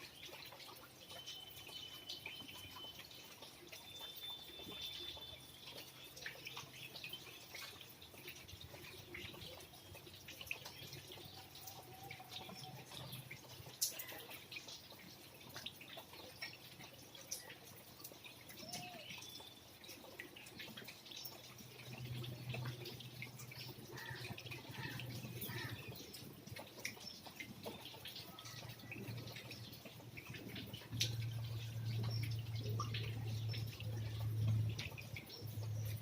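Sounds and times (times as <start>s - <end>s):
rain dripping: 0.0s - 36.0s.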